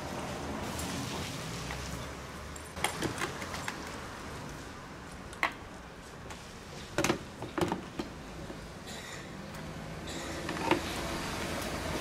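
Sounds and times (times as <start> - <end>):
hoses and pump being handled: 0.7 - 12.0.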